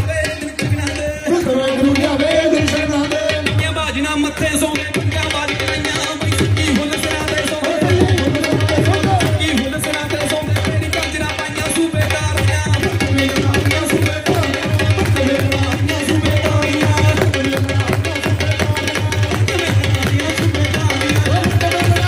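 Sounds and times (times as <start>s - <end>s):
folk dance music with drum beat: 0.0s - 22.0s.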